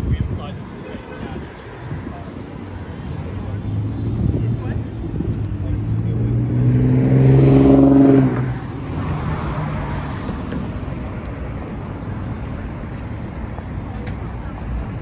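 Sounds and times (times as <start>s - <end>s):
city street traffic: 0.0s - 15.0s
pedestrians passing: 0.0s - 15.0s
vehicle engine humming: 0.0s - 15.0s.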